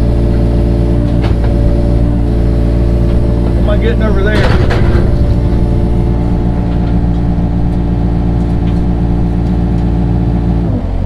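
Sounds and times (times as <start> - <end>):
digging machine engine running: 0.0 - 11.0.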